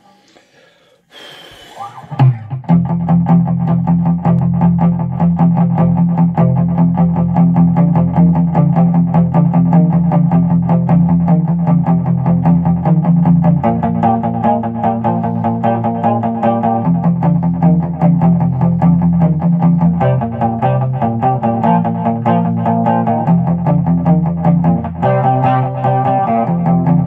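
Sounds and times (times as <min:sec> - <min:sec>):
electric guitar boogie riff: 0:01.8 - 0:27.0.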